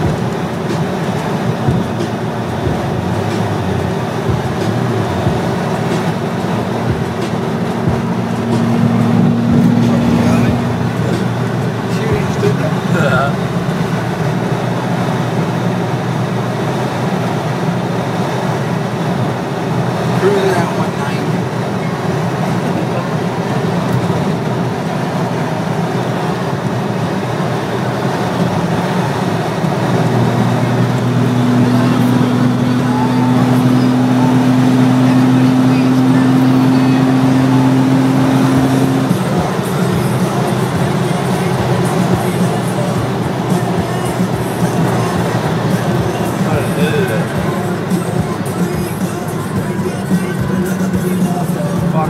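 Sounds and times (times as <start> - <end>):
car engine and exhaust hum: 0.0 - 52.0
tyre and road noise: 0.0 - 52.0.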